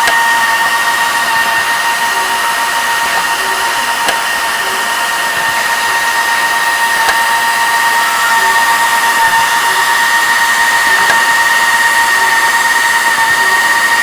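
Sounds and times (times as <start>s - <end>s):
machine motor whine: 0.0s - 14.0s.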